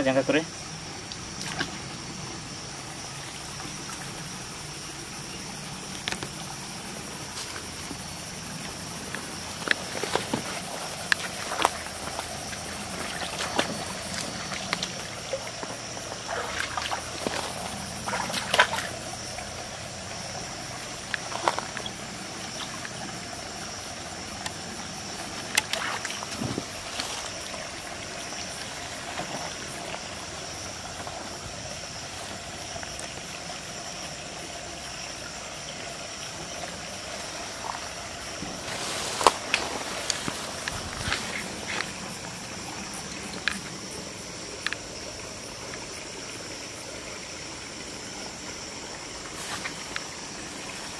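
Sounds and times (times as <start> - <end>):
stream trickling over rocks: 0.0 - 50.9
splashes and knocks of wading: 0.7 - 50.9.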